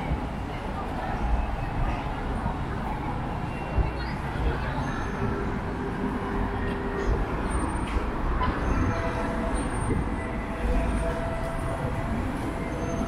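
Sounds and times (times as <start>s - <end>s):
subway train rumble: 0.0s - 13.0s.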